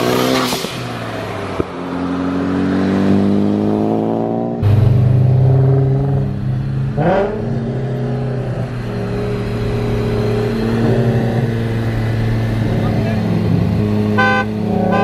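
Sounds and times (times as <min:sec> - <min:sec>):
car engines at high revs: 0:00.0 - 0:15.0.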